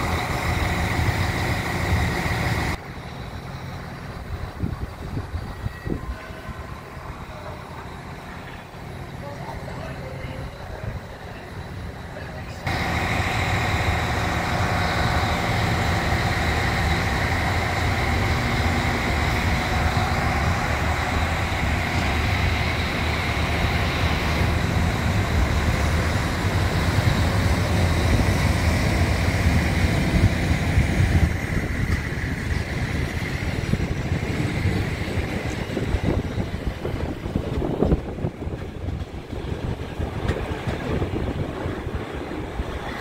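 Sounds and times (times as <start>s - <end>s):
train low rumble: 0.0s - 43.0s.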